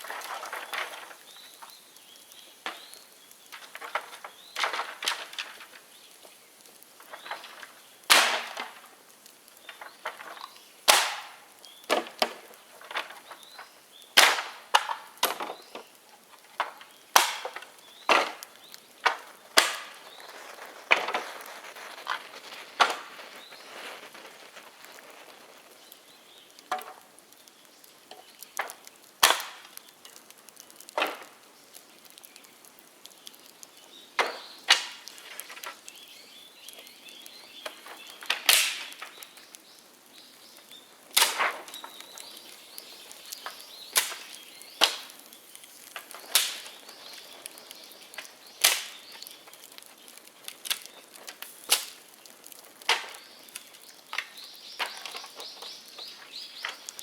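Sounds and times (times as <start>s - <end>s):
bamboo popping and cracking in fire: 0.0s - 57.0s.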